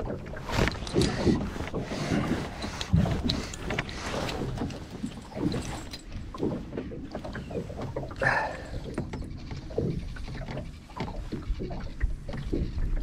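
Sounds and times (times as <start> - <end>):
waves slapping metal hull: 0.0 - 13.0.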